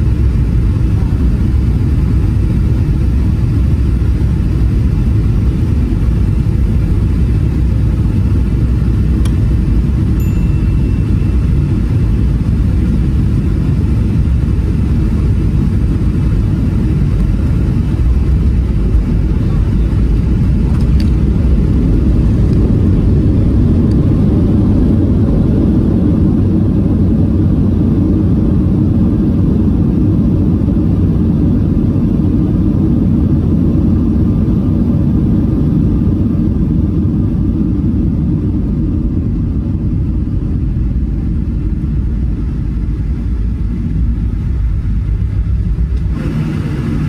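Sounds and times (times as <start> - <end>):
airplane cabin engine rumble: 0.0 - 47.0.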